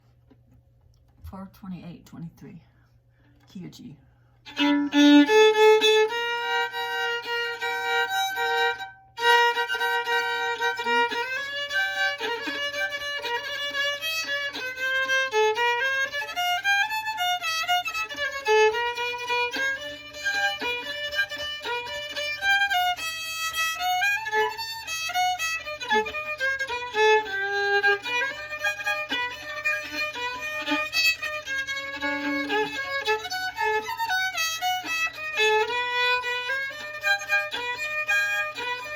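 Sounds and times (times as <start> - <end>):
fiddle tune: 4.4 - 38.9.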